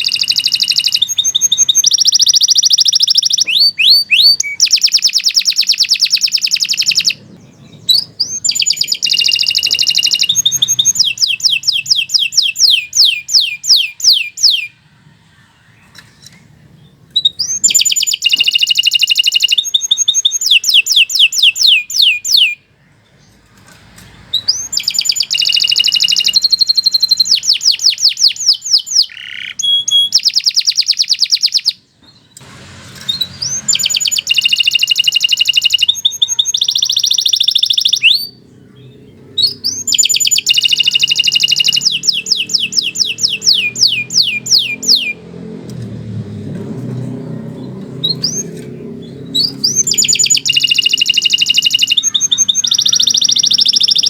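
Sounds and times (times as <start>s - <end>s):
canary singing trills: 0.0s - 23.7s, 24.3s - 32.4s, 33.1s - 45.6s, 47.1s - 54.0s.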